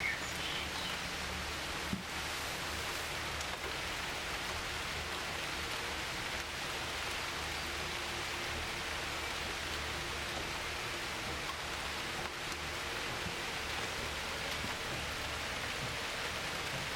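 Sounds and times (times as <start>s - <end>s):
heavy rain: 0.0s - 16.9s.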